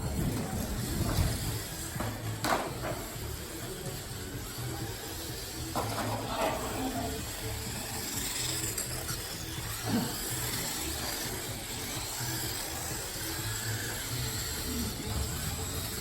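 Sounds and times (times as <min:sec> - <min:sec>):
electric toy trikes racing: 0:00.0 - 0:16.0.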